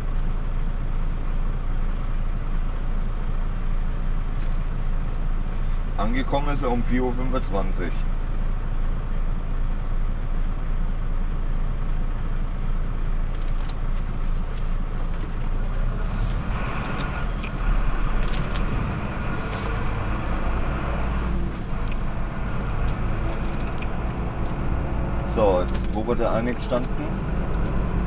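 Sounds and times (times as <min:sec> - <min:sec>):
diesel truck engine: 0:00.0 - 0:28.0.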